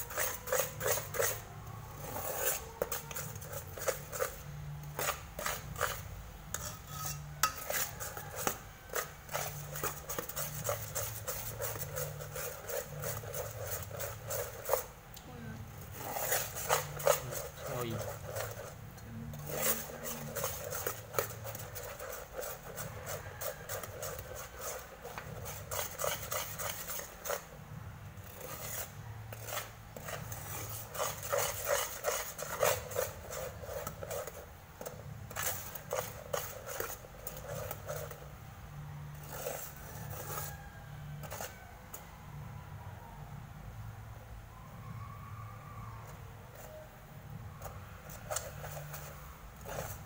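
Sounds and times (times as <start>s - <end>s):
metal spoon scraping a pot: 0.0s - 15.0s, 15.7s - 38.4s, 39.1s - 42.0s, 47.6s - 50.0s.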